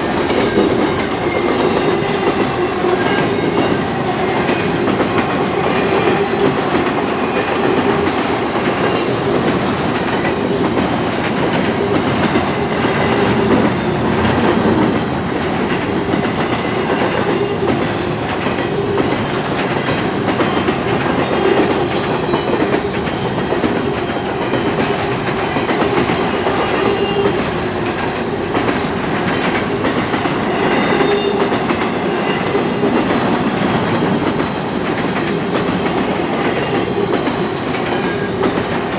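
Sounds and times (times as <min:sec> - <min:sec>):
freight train cars rolling: 0:00.0 - 0:38.9.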